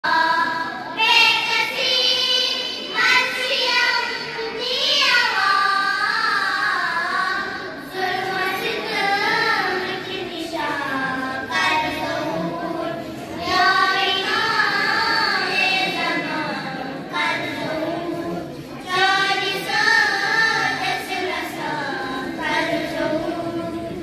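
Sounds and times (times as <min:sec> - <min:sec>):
girls singing devotional song: 0:00.0 - 0:24.0.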